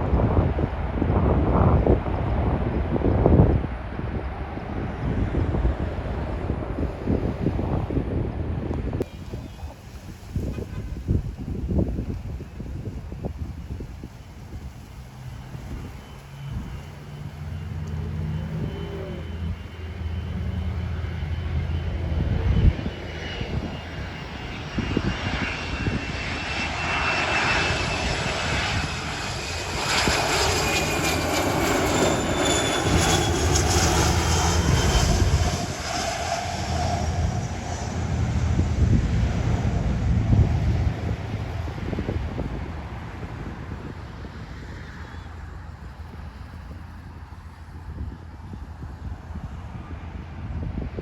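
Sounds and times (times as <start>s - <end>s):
jet engines roaring past: 0.0s - 51.0s.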